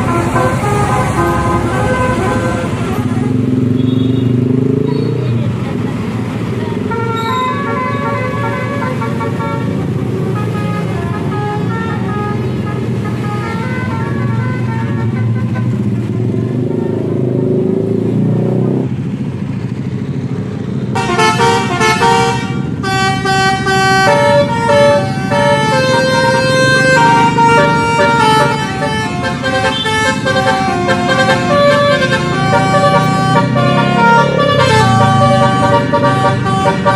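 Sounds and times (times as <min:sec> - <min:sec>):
multi-tone bus horn melody: 0:00.0 - 0:05.4, 0:06.7 - 0:17.1, 0:20.9 - 0:36.9
bus engine running: 0:00.0 - 0:36.9.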